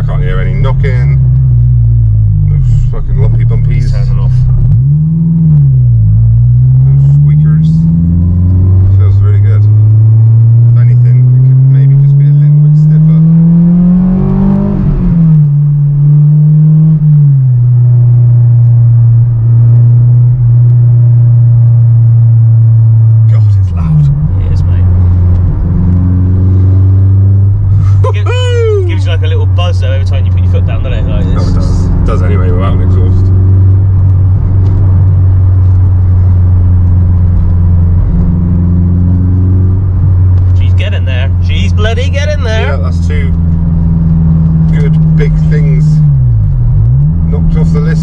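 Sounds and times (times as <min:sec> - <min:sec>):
car engine drone from inside: 0:00.0 - 0:48.0
road noise: 0:00.0 - 0:48.0.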